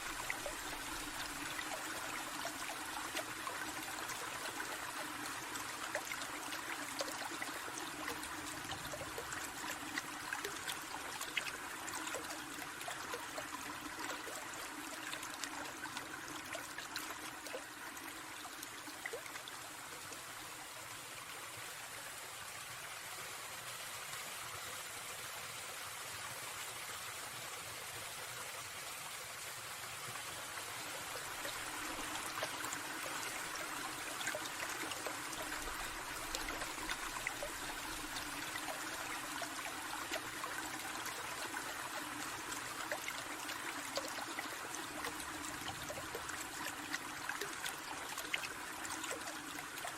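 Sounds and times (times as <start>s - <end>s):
stream trickling: 0.0s - 49.9s.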